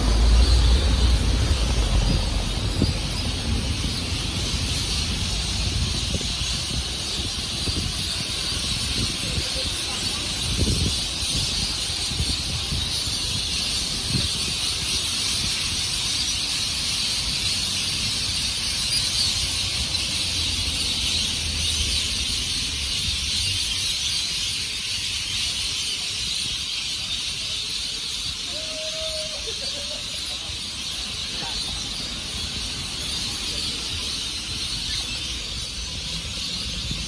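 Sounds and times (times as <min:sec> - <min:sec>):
passing cars rumbling: 0:00.0 - 0:23.9, 0:29.4 - 0:37.0.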